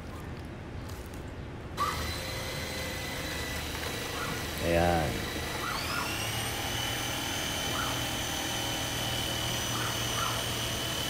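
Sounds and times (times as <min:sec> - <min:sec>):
motor whine: 0:01.8 - 0:11.0.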